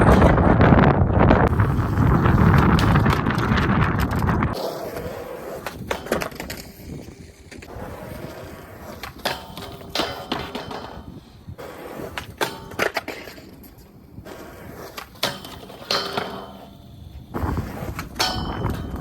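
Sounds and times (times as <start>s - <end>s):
skateboard clacking on ground: 0.0s - 19.0s
skateboard wheels rolling on pavement: 0.0s - 19.0s.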